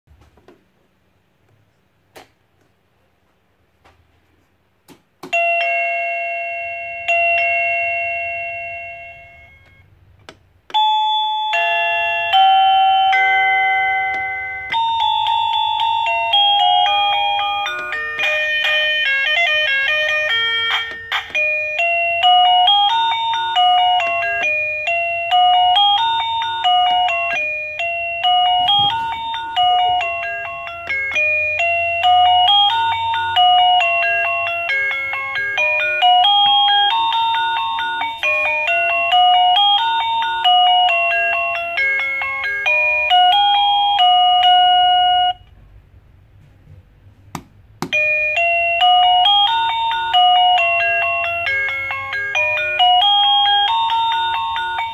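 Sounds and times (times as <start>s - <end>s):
doorbell electronic chime melody: 5.3s - 9.9s, 10.7s - 45.5s, 47.9s - 54.9s.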